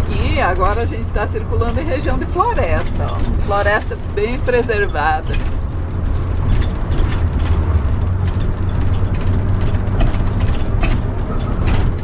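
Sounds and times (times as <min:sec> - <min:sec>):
engine and road drone: 0:00.0 - 0:12.0
rattles of loose fittings: 0:00.0 - 0:12.0.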